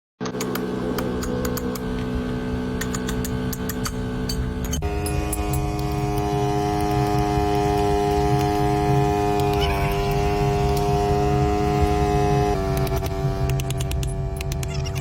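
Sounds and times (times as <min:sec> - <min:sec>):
music with sustained chords: 0:00.3 - 0:14.6.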